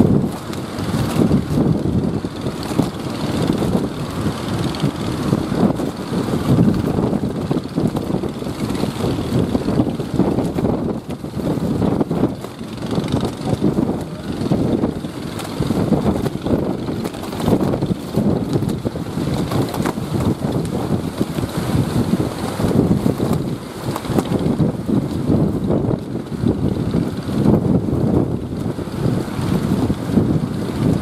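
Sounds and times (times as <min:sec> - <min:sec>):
surf breaking on shore: 0:00.0 - 0:31.0
wind buffeting microphone: 0:00.0 - 0:31.0.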